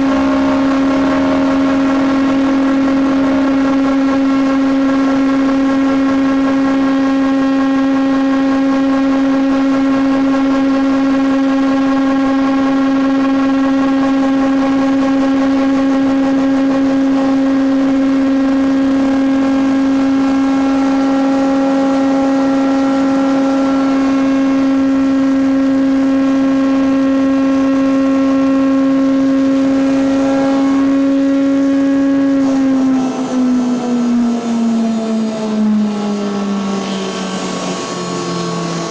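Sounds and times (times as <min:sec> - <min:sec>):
timber moulder humming: 0:00.0 - 0:38.9.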